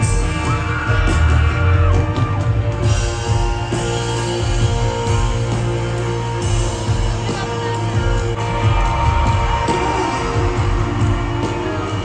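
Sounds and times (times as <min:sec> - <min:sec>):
heavy bass: 0:00.0 - 0:12.0
live rock band music: 0:00.0 - 0:12.0.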